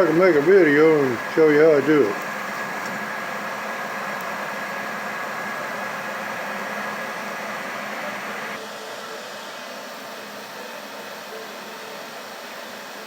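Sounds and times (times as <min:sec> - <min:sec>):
forge burner rushing: 0:00.0 - 0:13.0.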